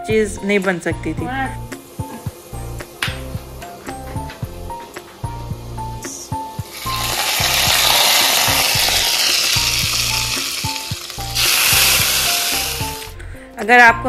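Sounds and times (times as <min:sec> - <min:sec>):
hot oil sizzling in a pan: 0:01.4 - 0:13.2.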